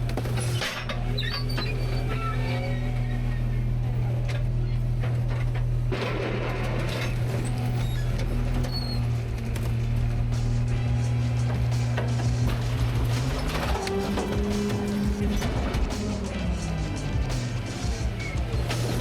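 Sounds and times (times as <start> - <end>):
faint metallic squeaks: 0.0 - 19.0
garbage truck drone: 0.0 - 19.0.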